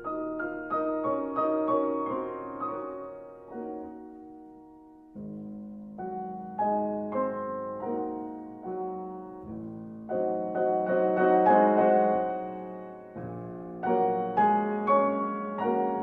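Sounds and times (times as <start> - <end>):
slow gentle solo piano: 0.0 - 16.0.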